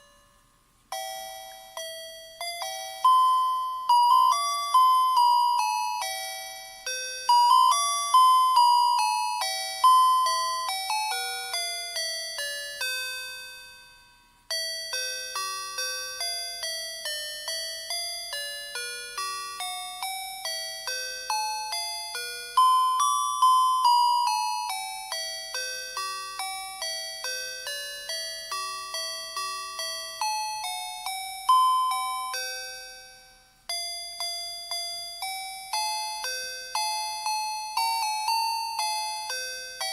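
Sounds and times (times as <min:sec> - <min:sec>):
beeping electronic carol melody: 0:00.0 - 0:39.9.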